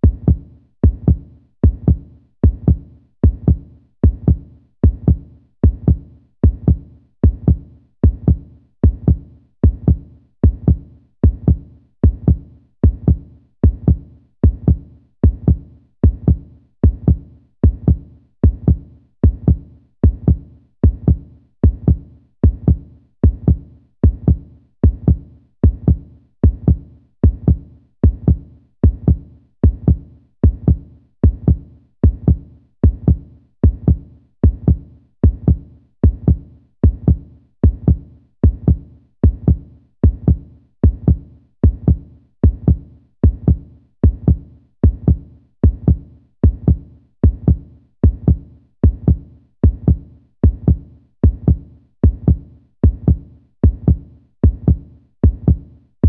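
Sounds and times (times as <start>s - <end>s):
heartbeat thumps: 0.0s - 55.6s.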